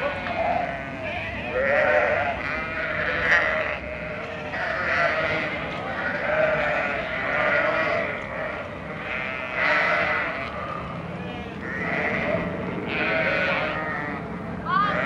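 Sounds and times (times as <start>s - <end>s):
flock of sheep bleating: 0.0s - 15.0s.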